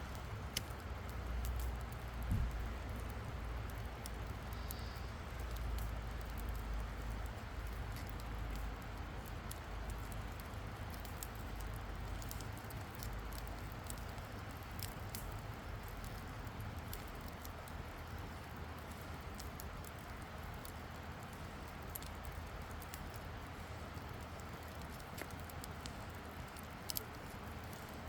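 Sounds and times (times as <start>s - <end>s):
burning wood popping: 0.0s - 28.0s
campfire crackling: 0.0s - 28.0s.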